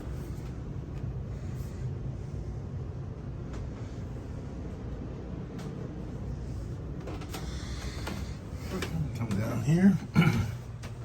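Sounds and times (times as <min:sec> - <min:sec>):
air conditioning humming: 0:00.0 - 0:11.0.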